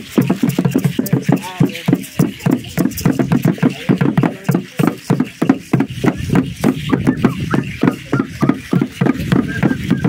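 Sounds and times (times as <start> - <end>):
drum beaten in dance rhythm: 0.0 - 10.0
faint voices: 0.0 - 10.0.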